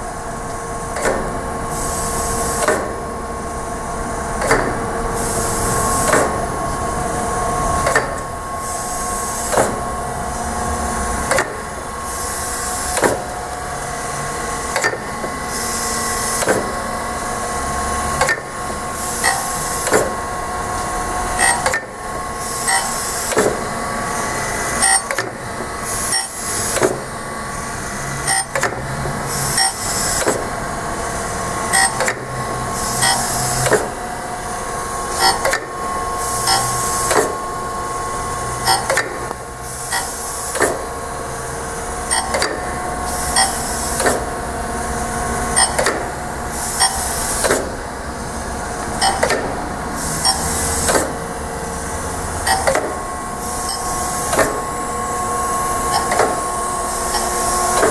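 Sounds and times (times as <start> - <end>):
motor and pump hum: 0.0 - 57.9.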